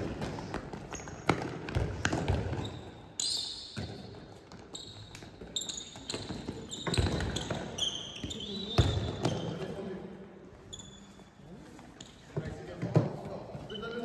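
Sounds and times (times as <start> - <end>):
sneaker squeaks: 0.2 - 14.0.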